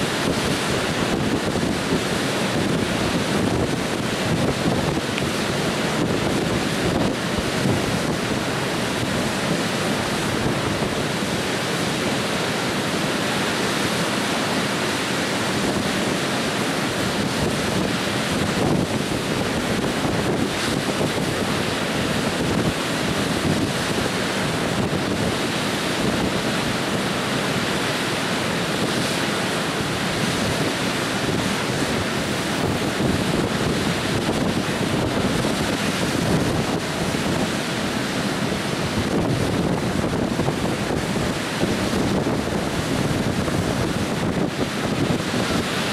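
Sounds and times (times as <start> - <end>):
river water rushing over weir: 0.0 - 45.9.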